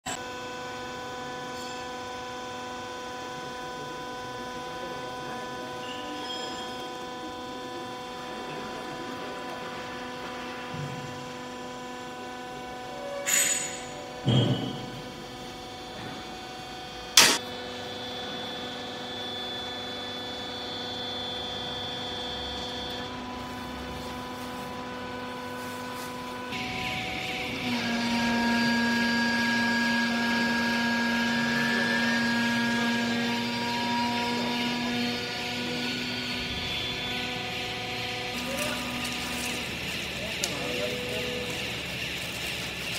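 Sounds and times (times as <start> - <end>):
electric machine hum: 0.0 - 42.9
hydraulic pump whine and hiss: 0.1 - 42.9.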